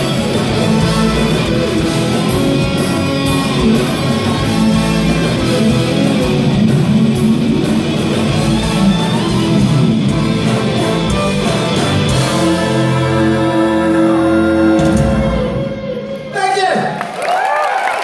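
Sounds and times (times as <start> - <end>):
electric guitar: 0.0 - 16.4
rock band with orchestra: 0.0 - 17.0.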